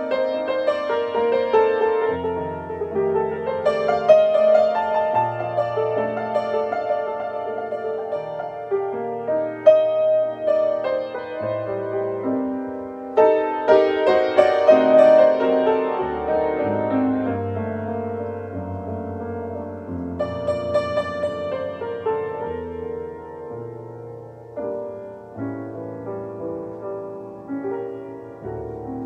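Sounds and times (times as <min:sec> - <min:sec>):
jazz piano ballad: 0:00.0 - 0:29.0.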